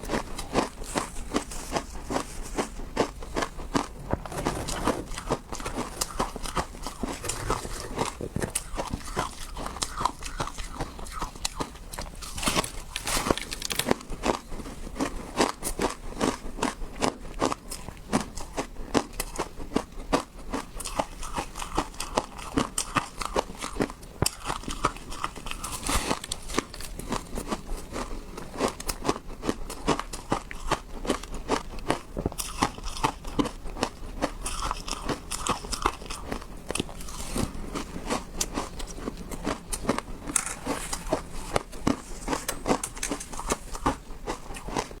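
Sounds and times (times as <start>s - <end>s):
person crunching ice: 0.0s - 19.4s, 20.1s - 45.0s.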